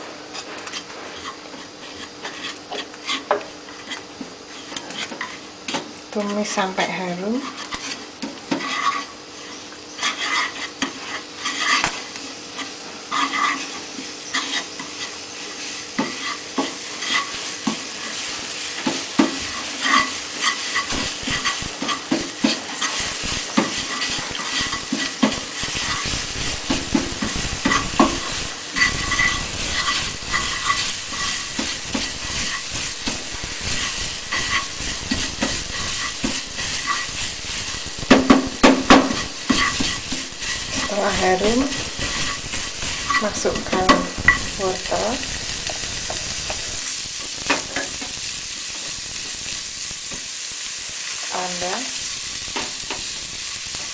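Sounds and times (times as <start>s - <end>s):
paste sizzling in hot oil: 0.0s - 53.9s
spatula scraping a pan: 0.3s - 48.3s.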